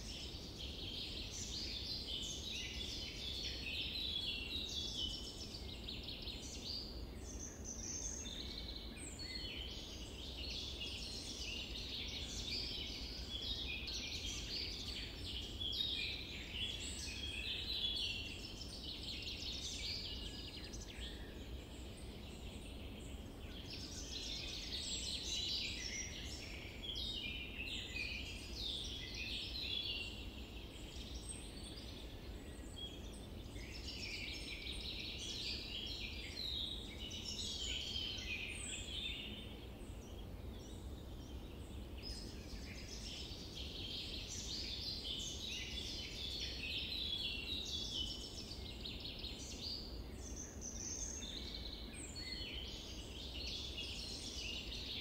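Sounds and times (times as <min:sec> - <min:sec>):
low background noise: 0:00.0 - 0:55.0
small birds chirping and singing: 0:00.0 - 0:55.0.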